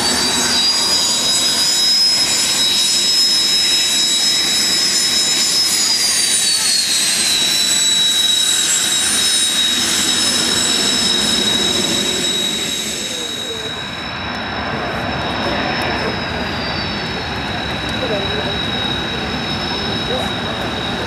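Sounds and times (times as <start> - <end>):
jet engine high-pitched whine: 0.0 - 21.0
jet roar: 0.0 - 21.0.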